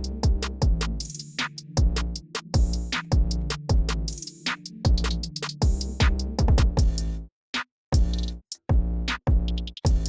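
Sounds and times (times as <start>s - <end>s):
hip-hop music with drum-machine beat: 0.0s - 10.0s.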